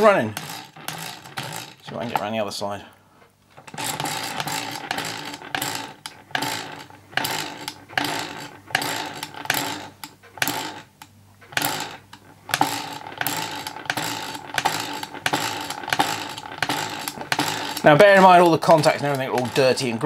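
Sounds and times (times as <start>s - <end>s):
electromagnet engine clicking: 0.0s - 2.3s, 3.6s - 20.0s.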